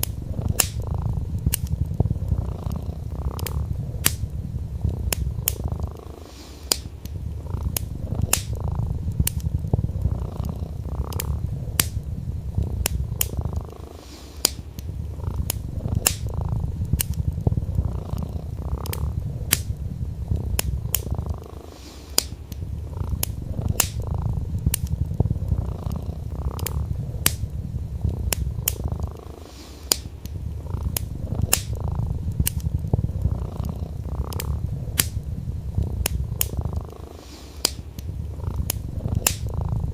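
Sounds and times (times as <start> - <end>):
cat purring: 0.0 - 39.9
wood fire crackling and popping: 0.0 - 39.9.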